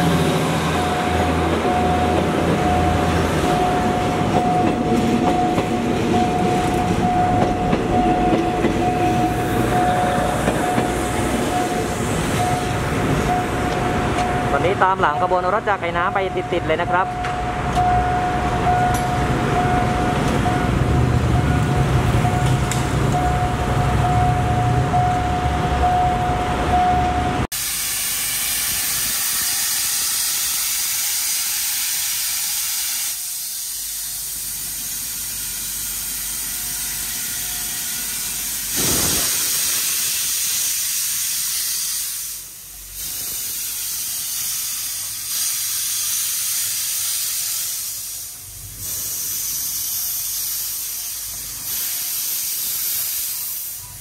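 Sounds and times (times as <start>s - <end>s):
steam locomotive hissing: 0.0s - 20.8s, 27.5s - 54.0s
diesel railcar engine running: 0.0s - 54.0s.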